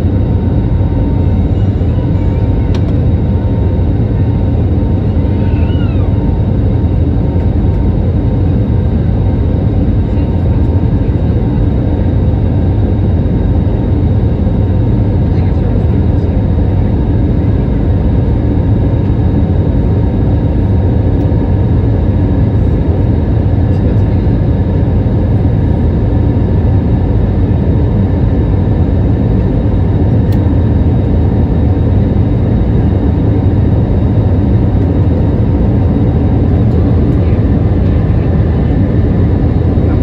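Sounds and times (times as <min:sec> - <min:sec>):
aircraft engine and airflow roar: 0:00.0 - 0:40.0.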